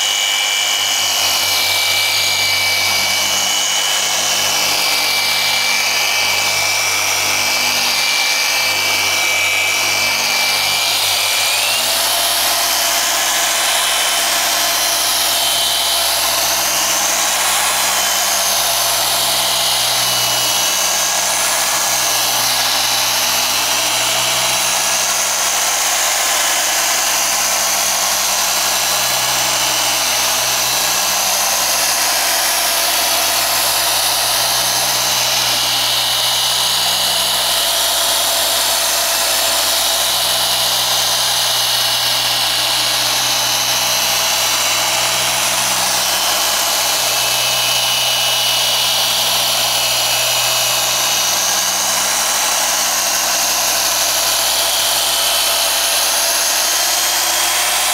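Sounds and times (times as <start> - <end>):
car polisher motor humming: 0.0 - 57.9.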